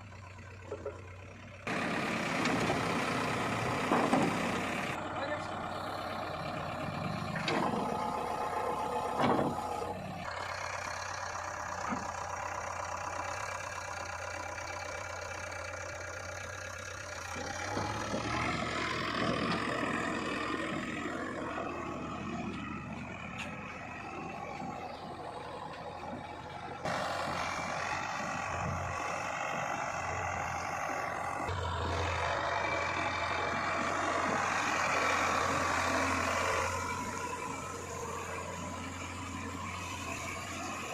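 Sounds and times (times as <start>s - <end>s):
diesel engine of backhoe loader: 0.0s - 40.9s.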